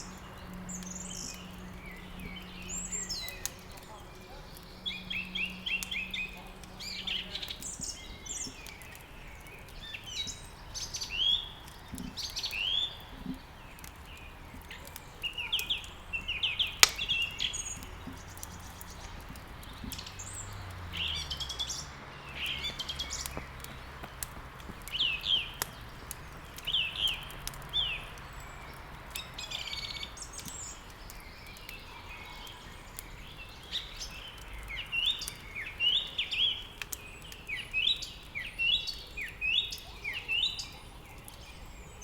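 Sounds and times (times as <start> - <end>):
songbirds chirping: 0.0 - 42.0
wood crackling in a fireplace: 0.0 - 42.0.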